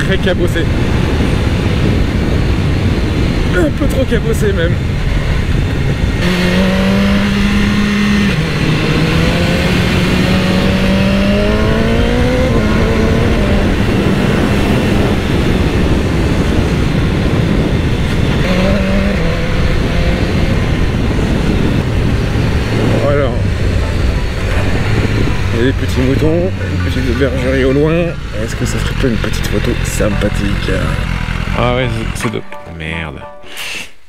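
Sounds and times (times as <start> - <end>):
wind rushing over microphone: 0.0 - 32.2
motorcycle engine: 4.8 - 32.5.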